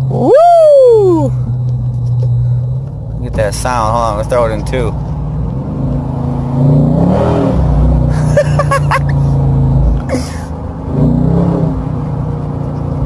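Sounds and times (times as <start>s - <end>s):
engine accelerating hard: 0.0s - 13.0s.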